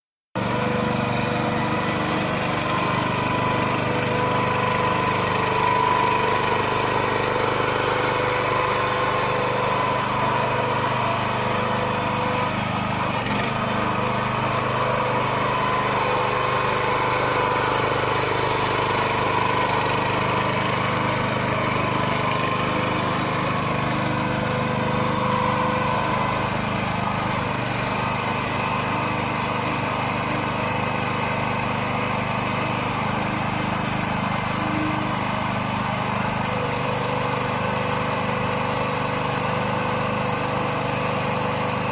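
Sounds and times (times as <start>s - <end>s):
small gasoline engine running: 0.3s - 41.9s.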